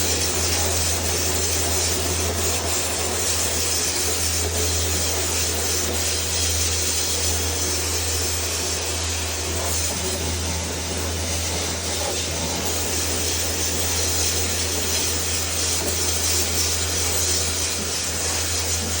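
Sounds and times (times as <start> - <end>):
cleaning machine humming and hissing: 0.0 - 19.0.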